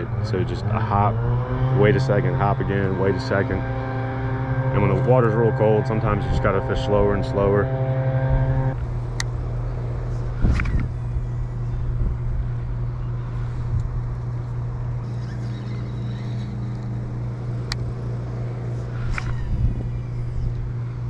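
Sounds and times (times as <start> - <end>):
wind rumble on microphone: 0.0 - 15.1, 18.8 - 21.0
leaf blower engine droning: 0.0 - 21.0.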